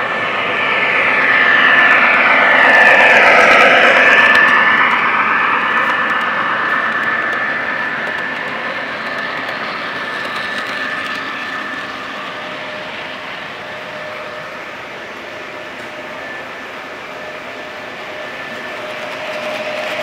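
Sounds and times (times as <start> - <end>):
model train rolling on track: 0.0 - 20.0
thin high whine: 0.0 - 20.0.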